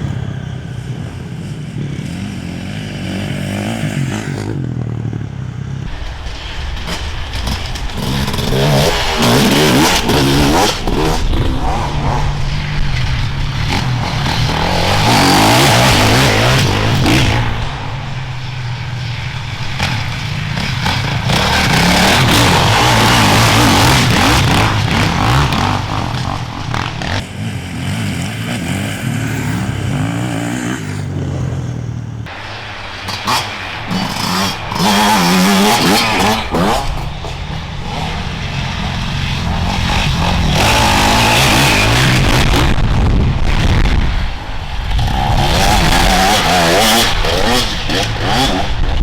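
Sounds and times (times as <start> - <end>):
motorcycle engines revving: 0.0 - 49.0.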